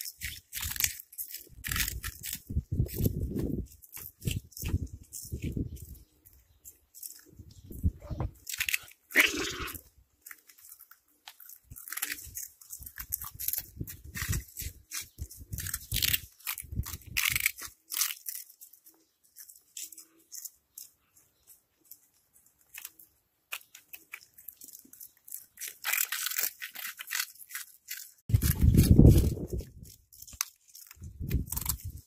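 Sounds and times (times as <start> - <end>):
cats crunching snacks: 0.0 - 32.0.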